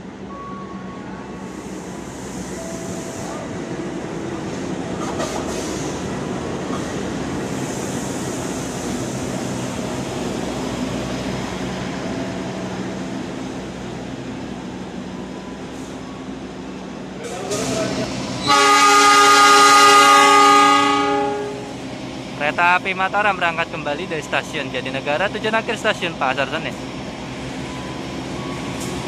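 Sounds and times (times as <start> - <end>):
locomotive engine humming: 0.0 - 29.0
train wheels rumbling on rails: 0.0 - 29.0.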